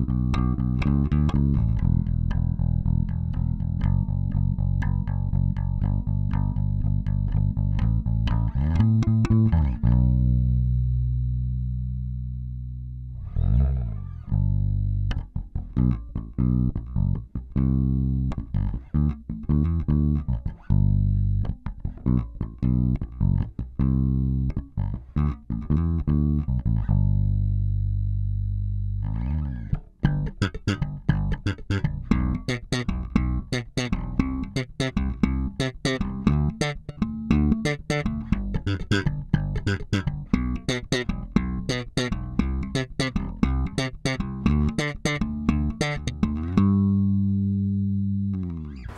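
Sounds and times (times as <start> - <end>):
electric bass played fingerstyle: 0.0 - 48.9.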